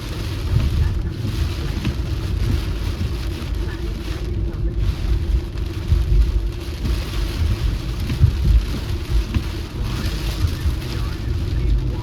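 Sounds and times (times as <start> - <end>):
rain hissing: 0.0 - 12.0
tyres and engine rumble: 0.0 - 12.0.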